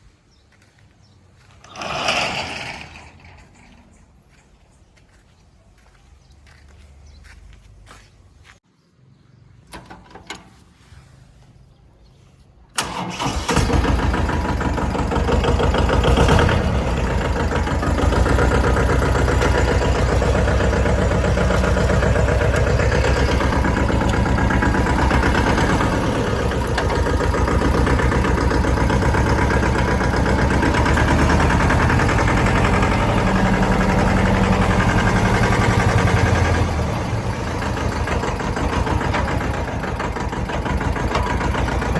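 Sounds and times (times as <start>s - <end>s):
tractor diesel engine starting: 1.4s - 4.0s, 9.6s - 11.8s, 12.7s - 41.9s.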